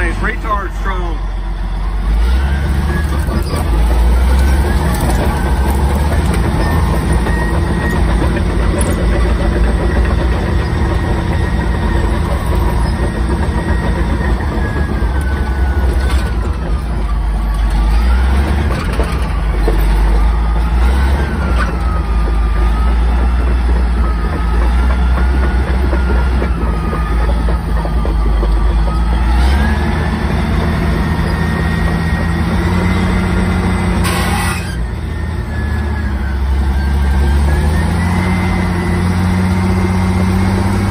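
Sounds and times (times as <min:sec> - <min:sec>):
bulldozer diesel engine rumble: 0:00.0 - 0:40.9.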